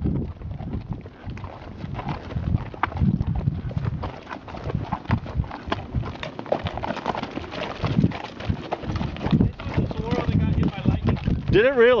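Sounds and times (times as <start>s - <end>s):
horse hooves on gravel: 0.0s - 12.0s.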